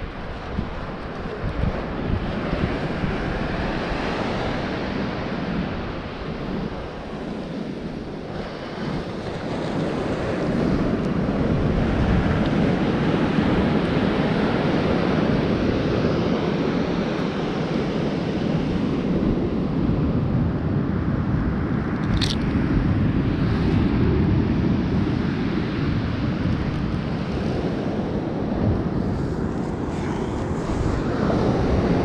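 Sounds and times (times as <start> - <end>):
surf breaking on beach: 0.0 - 20.3, 22.1 - 32.0
wind on microphone: 0.0 - 32.0.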